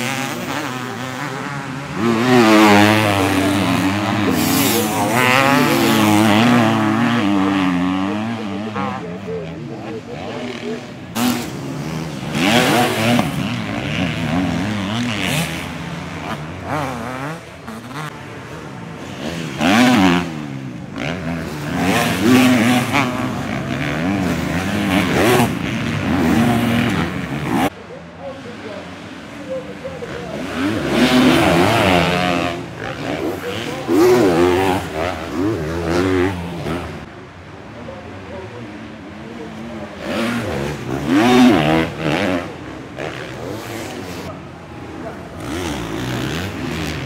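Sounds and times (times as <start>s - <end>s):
motocross bikes racing past: 0.0s - 47.0s.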